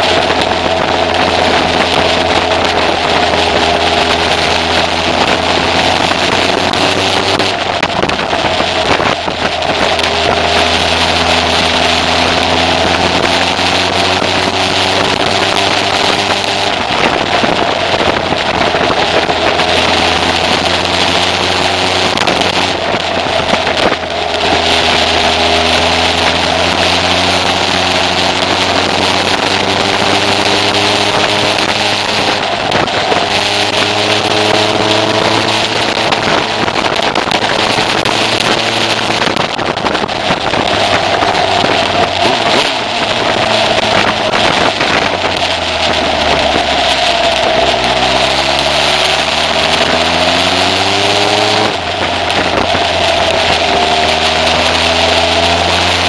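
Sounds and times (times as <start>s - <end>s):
heavy wind and road noise: 0.0s - 56.0s
motorcycle engine pulling: 0.0s - 56.0s.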